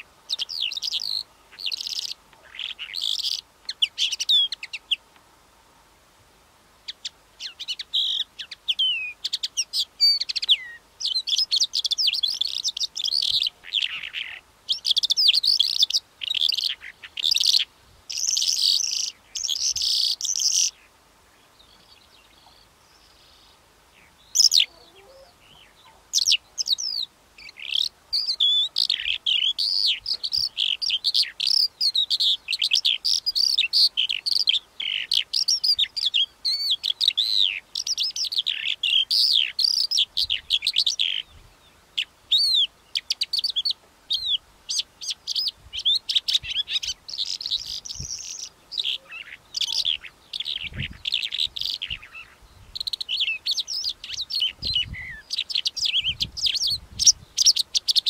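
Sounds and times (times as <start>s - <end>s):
lark singing: 0.0s - 5.0s, 6.9s - 20.9s, 21.5s - 58.0s.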